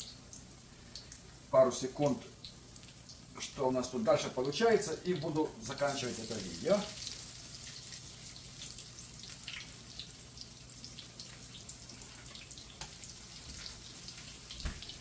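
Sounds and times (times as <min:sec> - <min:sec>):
oil popping and crackling: 0:00.0 - 0:15.0
pancakes sizzling in oil: 0:00.0 - 0:15.0.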